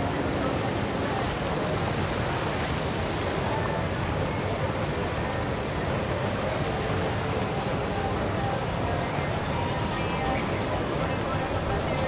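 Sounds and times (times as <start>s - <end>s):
water washing around hulls: 0.0s - 12.0s.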